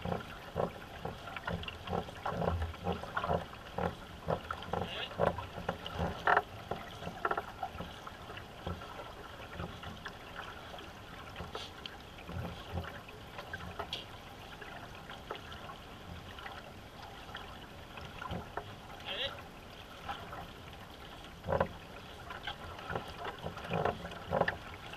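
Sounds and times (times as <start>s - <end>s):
paddle strokes in water: 0.0s - 24.9s
water splashing along hull: 0.0s - 24.9s.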